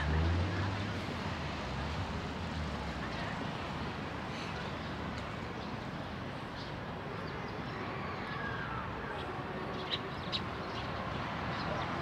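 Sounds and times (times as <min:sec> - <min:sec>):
city background noise: 0:00.0 - 0:12.0.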